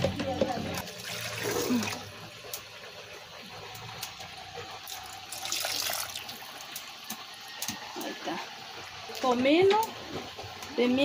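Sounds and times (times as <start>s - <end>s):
broth pouring and splashing: 0.7s - 11.0s.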